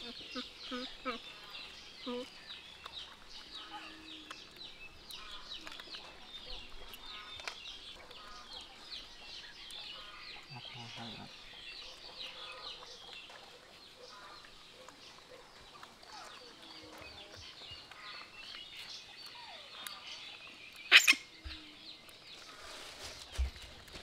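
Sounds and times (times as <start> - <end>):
birds chirping and clucking: 0.0 - 24.0.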